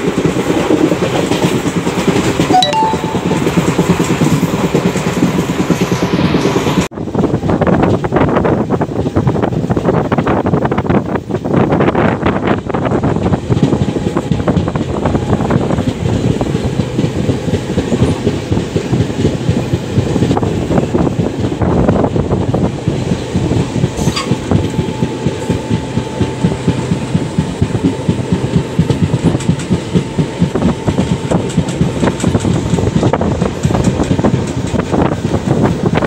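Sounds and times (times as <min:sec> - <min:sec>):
train wheels clattering over rail joints: 0:00.0 - 0:02.5, 0:04.2 - 0:36.0
train rumble: 0:00.0 - 0:36.0.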